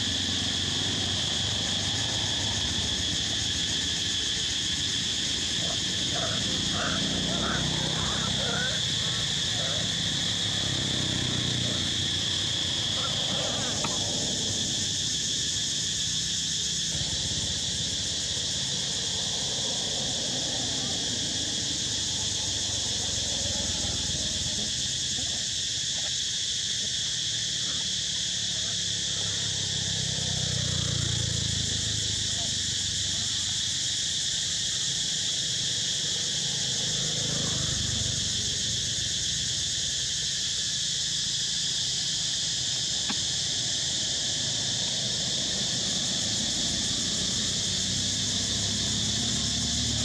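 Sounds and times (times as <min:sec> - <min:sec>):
insects buzzing: 0:00.0 - 0:50.0.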